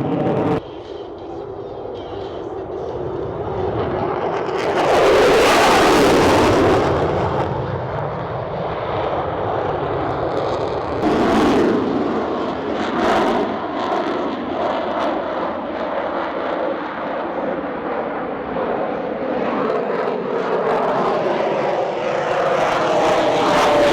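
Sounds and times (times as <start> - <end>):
aircraft flying overhead: 0.0 - 23.9.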